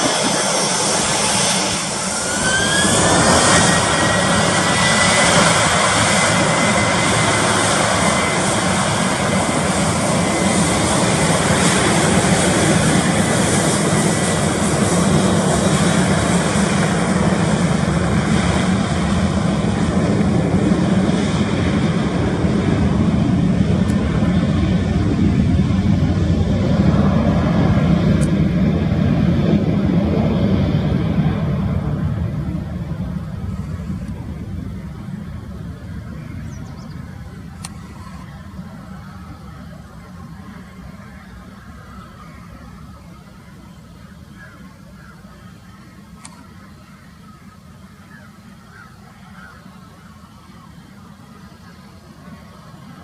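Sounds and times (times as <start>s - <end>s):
jet engines at takeoff power: 0.0s - 53.0s.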